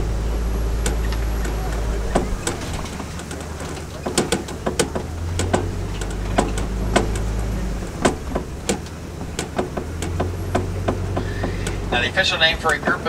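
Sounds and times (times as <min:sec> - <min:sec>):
truck body rattles and knocks: 0:00.0 - 0:13.0
truck engine drone: 0:00.0 - 0:13.0.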